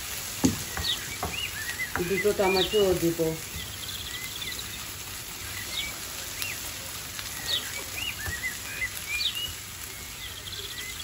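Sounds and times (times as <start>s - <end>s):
onions frying in a pan: 0.0s - 11.0s
small birds chirping: 0.0s - 11.0s.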